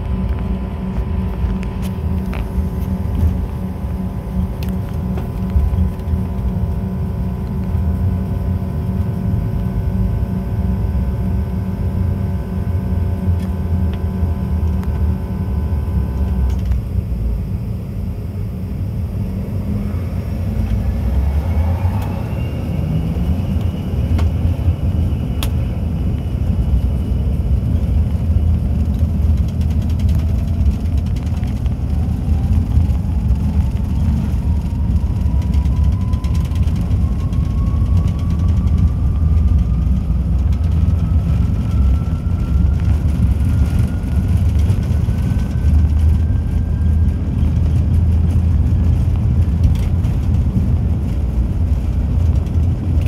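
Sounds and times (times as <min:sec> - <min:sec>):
jet cabin low rumble: 0:00.0 - 0:53.0
jet engine whine rising: 0:00.0 - 0:53.0.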